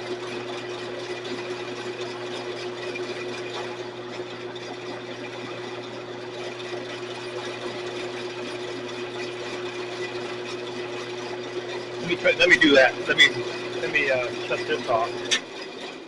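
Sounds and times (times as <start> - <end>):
bandsaw motor humming: 0.0 - 16.0.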